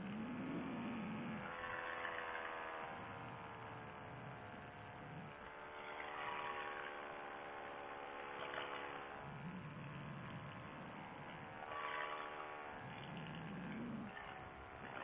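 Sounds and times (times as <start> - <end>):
paramotor engine buzzing: 0.0 - 15.0.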